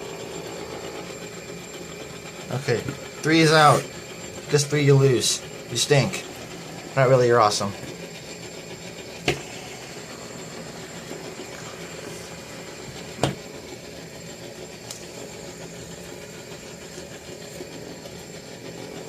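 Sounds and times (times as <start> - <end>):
fidget spinners whirring: 0.0 - 19.0.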